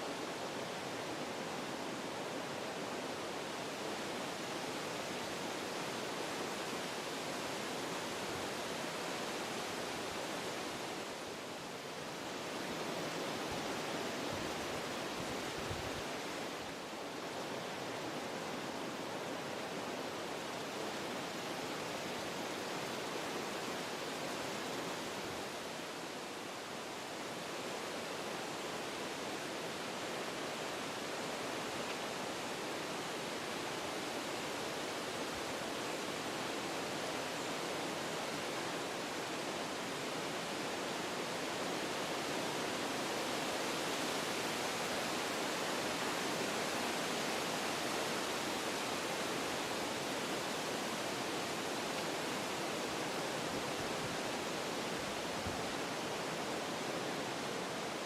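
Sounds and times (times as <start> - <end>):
wind rushing through trees: 0.0 - 58.0.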